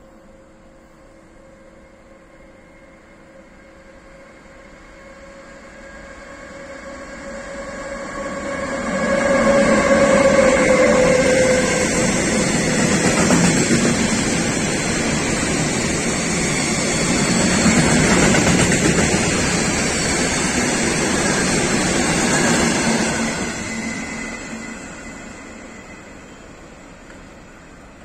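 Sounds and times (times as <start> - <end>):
freight train rolling past: 0.7 - 28.0.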